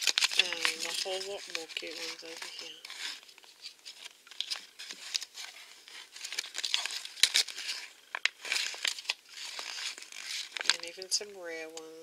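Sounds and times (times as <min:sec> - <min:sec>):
paper crinkling and rustling: 0:00.0 - 0:11.9.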